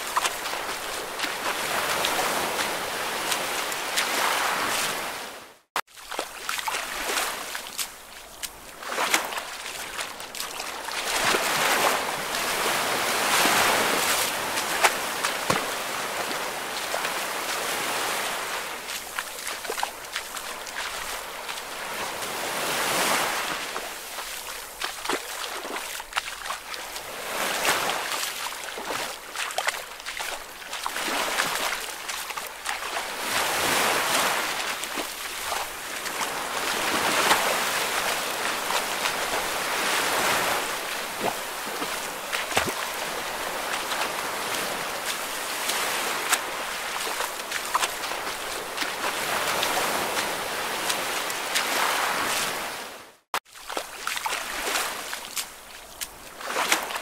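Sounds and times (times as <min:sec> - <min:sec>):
small sharp splashes: 0:00.0 - 0:05.0, 0:05.8 - 0:22.3, 0:22.9 - 0:52.6, 0:53.4 - 0:57.0
ocean waves washing in: 0:00.0 - 0:05.7, 0:08.5 - 0:53.2.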